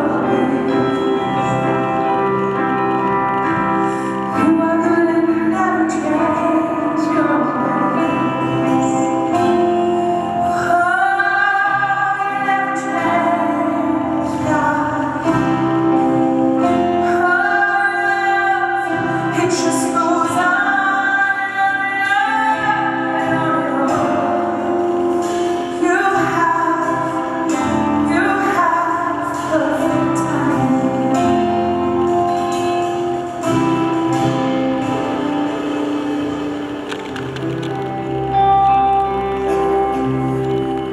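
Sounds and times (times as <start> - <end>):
woman singing: 0.0 - 36.6
instrumental accompaniment: 0.0 - 40.9.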